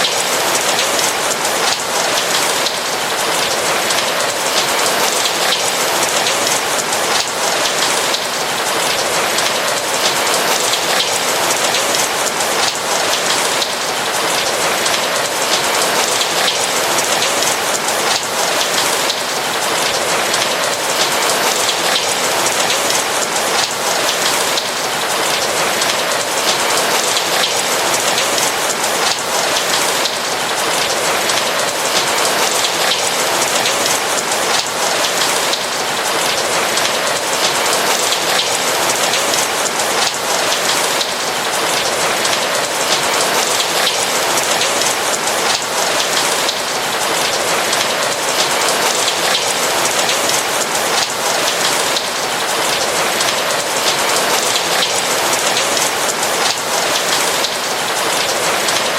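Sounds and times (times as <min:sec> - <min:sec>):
steady rain patter: 0:00.0 - 0:58.9.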